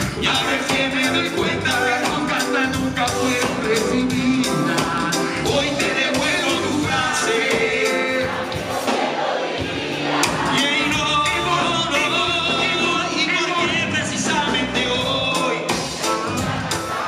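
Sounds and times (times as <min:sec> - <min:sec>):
people singing: 0:00.0 - 0:12.9, 0:13.7 - 0:17.0
live band music: 0:00.0 - 0:17.0
steady drum beat: 0:00.0 - 0:17.0.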